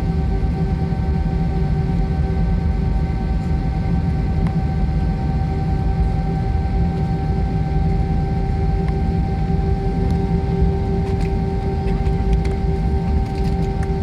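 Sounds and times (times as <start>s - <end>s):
multi-tone whine: 0.0s - 14.0s.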